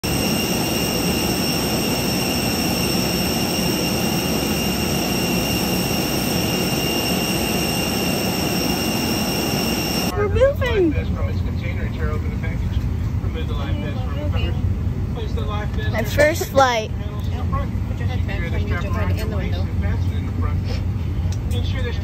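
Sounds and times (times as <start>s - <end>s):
jet turbine engine whining: 0.0s - 22.0s.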